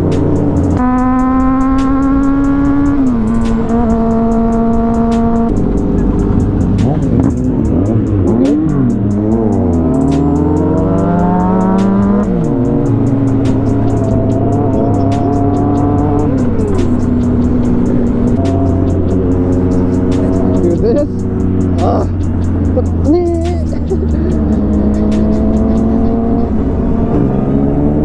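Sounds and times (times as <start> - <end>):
motorcycle engine running: 0.0 - 28.0
music with ticking beat: 0.0 - 28.0
several engines rising and falling: 0.0 - 28.0.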